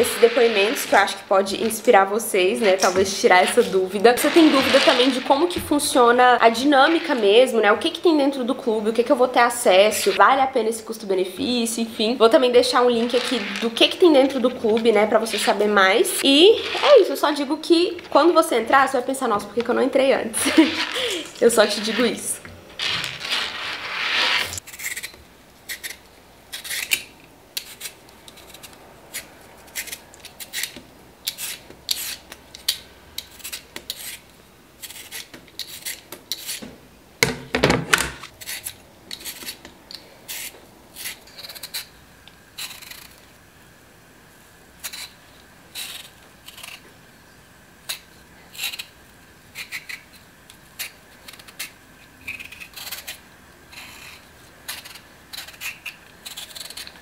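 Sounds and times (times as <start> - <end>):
peeler scraping potato: 0.0 - 10.2, 11.8 - 36.7, 38.3 - 41.9, 42.5 - 43.3, 44.8 - 46.9, 47.8 - 57.0.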